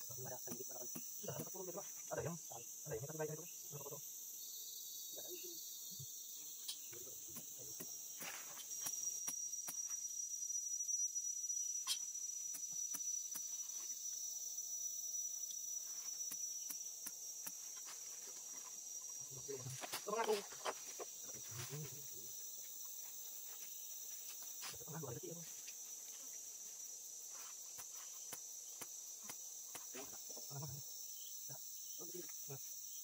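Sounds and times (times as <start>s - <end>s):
high-pitched insect buzzing: 0.0s - 33.0s.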